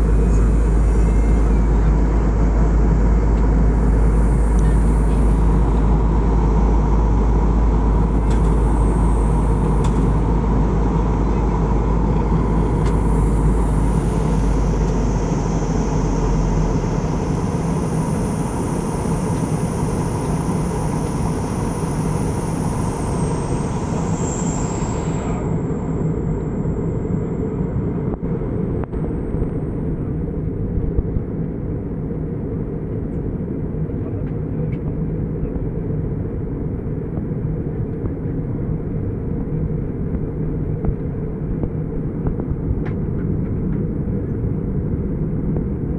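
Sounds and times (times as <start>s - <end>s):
airliner cabin engine noise: 0.0s - 45.9s.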